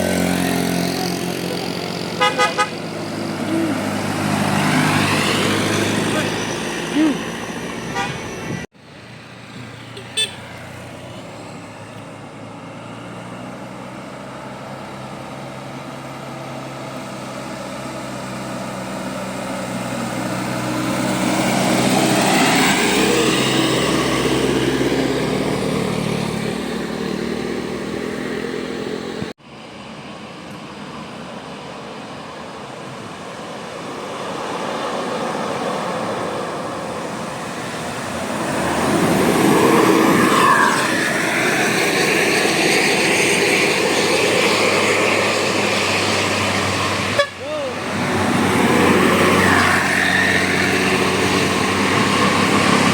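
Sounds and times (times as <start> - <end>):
vehicle engine passing: 0.0 - 52.9.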